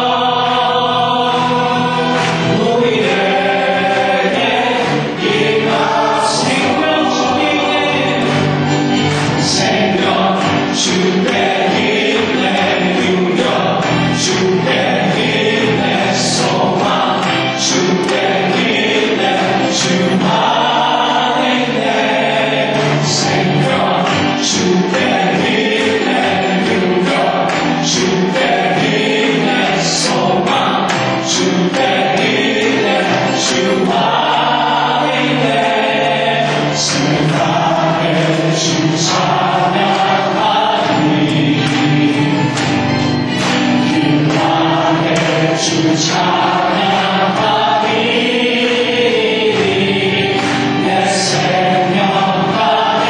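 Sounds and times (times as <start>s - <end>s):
group singing gospel in harmony: 0.0s - 53.0s.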